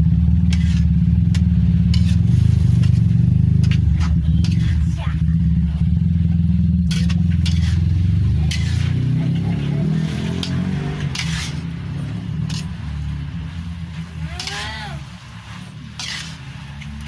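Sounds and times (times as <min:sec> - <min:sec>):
low engine-like rumble: 0:00.0 - 0:17.0
spatula scraping in a pan: 0:00.4 - 0:05.0, 0:06.8 - 0:17.0.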